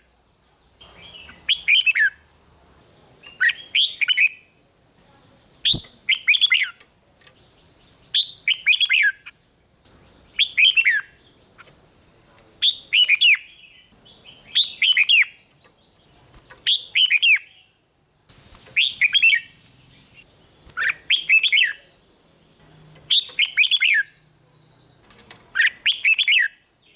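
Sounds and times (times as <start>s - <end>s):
faint steady high tone: 0.1s - 26.9s
bird singing whistled notes: 0.8s - 2.3s, 3.1s - 4.6s, 5.5s - 26.9s.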